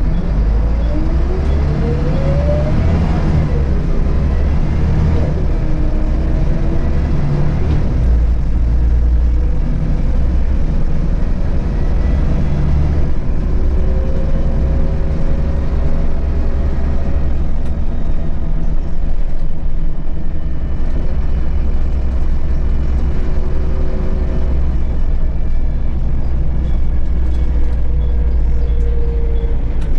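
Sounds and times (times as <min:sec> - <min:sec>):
bus engine drone: 0:00.0 - 0:29.9.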